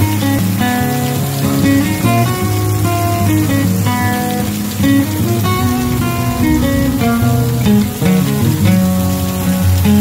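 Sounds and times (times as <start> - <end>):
plucked acoustic guitar: 0.0 - 10.0.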